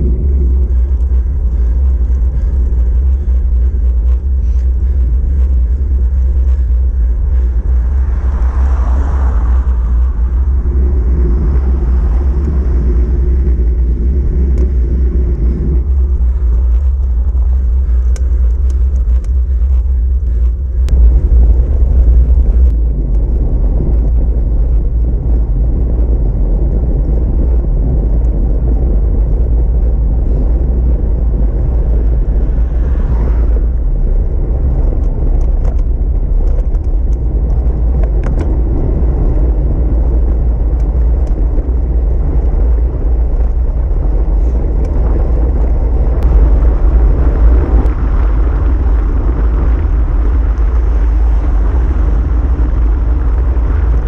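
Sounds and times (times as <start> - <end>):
tyre road noise: 0.0 - 54.0
wind rushing over microphone: 0.0 - 54.0.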